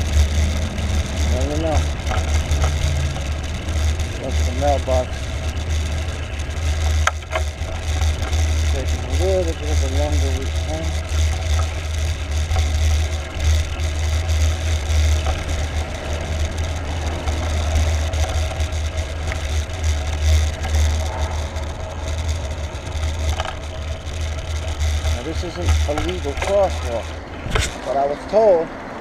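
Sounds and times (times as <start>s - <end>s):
bicycle rolling on pavement: 0.0s - 29.0s.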